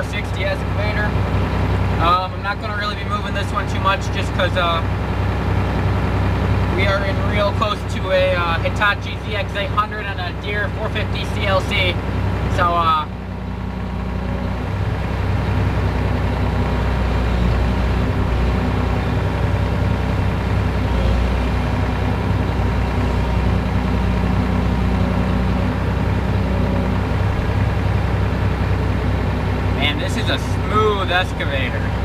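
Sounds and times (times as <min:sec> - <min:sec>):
excavator diesel engine hum: 0:00.0 - 0:32.0.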